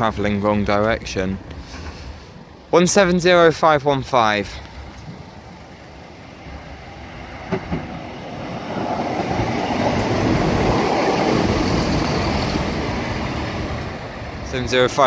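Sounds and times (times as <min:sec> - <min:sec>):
train engine and wheel rumble: 0:00.0 - 0:15.0.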